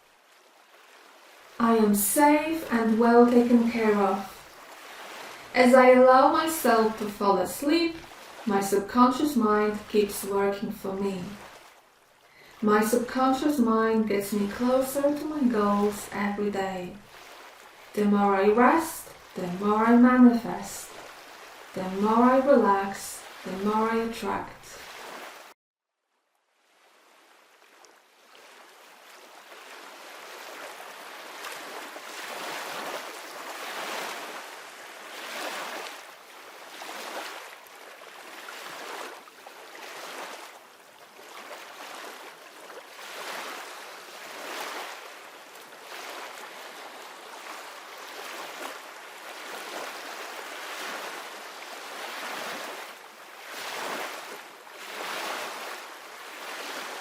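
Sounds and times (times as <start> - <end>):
ocean waves washing on shore: 0.0 - 25.6, 26.6 - 57.0.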